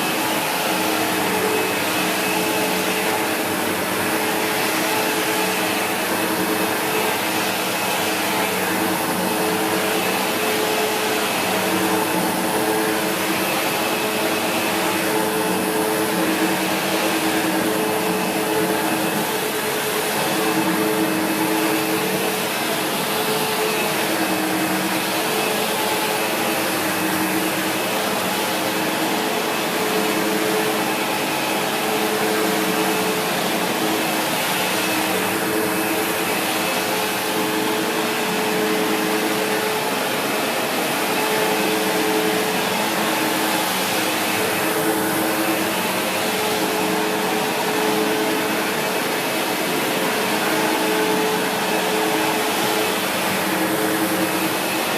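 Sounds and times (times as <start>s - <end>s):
vacuum cleaner on carpet: 0.0s - 54.9s.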